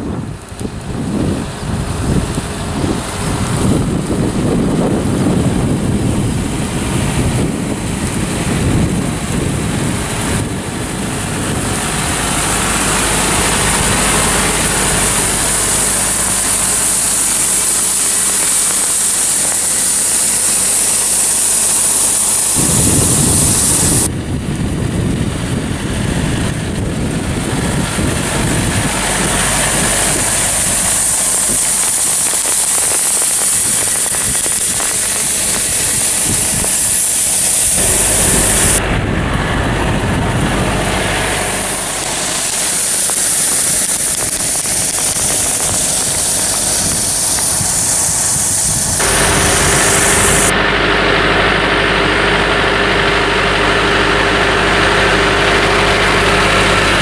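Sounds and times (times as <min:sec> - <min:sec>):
strong steady hiss: 0:00.0 - 0:51.8
tractor engine running: 0:00.0 - 0:57.0.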